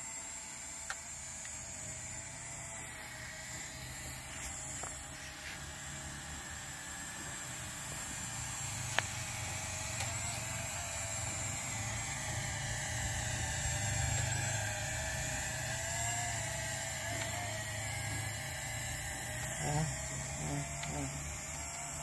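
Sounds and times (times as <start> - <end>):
toy drone propellers whining: 0.0 - 22.0.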